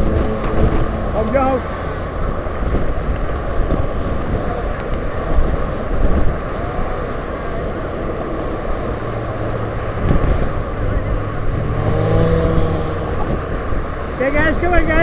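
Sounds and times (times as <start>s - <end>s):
road traffic passing: 0.0s - 15.0s
wind buffeting microphone: 0.0s - 15.0s.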